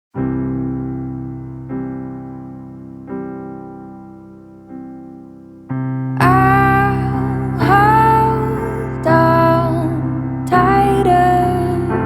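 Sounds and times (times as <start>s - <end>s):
slow piano chords: 0.1s - 12.0s.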